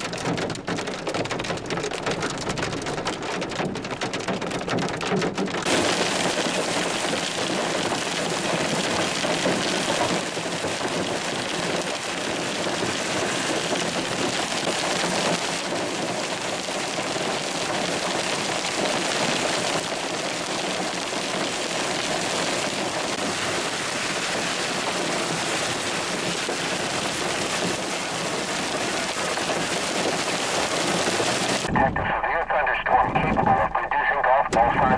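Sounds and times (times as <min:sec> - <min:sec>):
hail falling heavily: 0:00.0 - 0:31.8
rain: 0:00.0 - 0:34.9.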